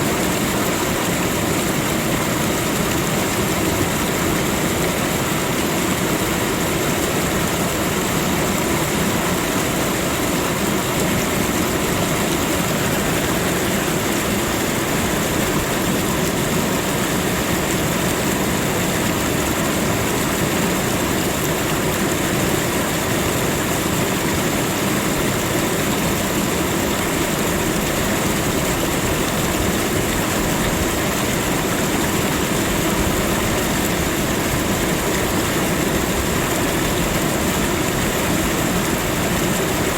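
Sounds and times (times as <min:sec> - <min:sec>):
steady rushing nature ambience: 0:00.0 - 0:39.9.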